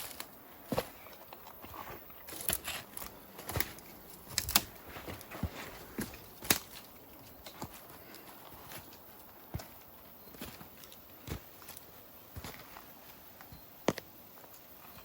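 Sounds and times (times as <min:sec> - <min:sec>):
footsteps crunching on forest ground: 0:00.0 - 0:15.0
low outdoor hiss: 0:00.0 - 0:15.0.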